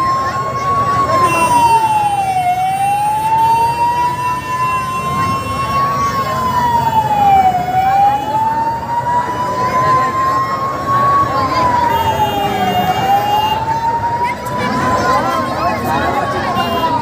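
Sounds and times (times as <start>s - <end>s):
emergency siren wailing: 0.0s - 17.0s
street crowd hubbub: 0.0s - 17.0s.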